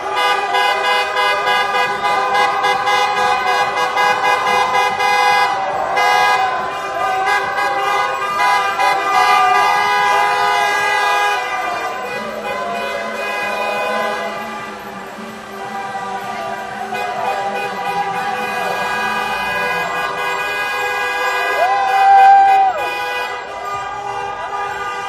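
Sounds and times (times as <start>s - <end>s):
car horns honking: 0.0s - 25.0s
crowd cheering: 0.0s - 25.0s.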